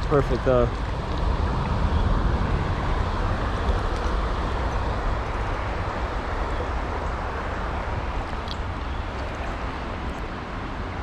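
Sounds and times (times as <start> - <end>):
creek water rushing over rapids: 0.0 - 11.0.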